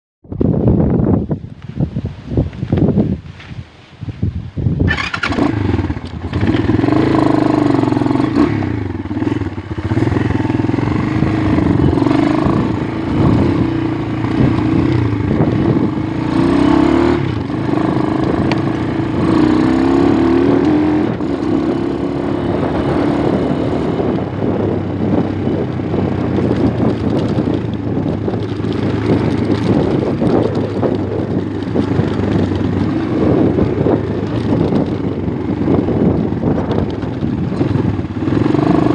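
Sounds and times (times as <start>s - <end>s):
dirt bike engine: 4.8s - 38.9s.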